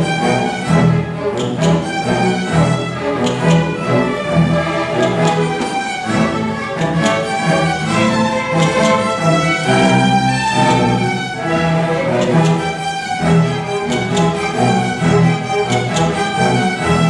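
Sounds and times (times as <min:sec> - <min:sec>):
bowed strings: 0:00.0 - 0:17.0
orchestra playing: 0:00.0 - 0:17.0.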